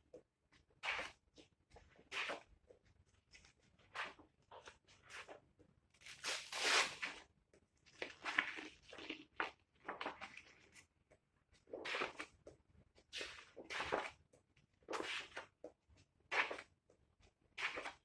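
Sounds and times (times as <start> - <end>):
wallpaper samples rustling: 0.2 - 18.0.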